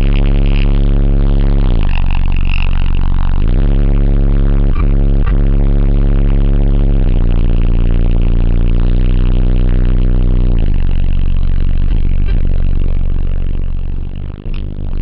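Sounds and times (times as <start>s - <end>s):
loud deep bass from subwoofers: 0.0s - 15.0s.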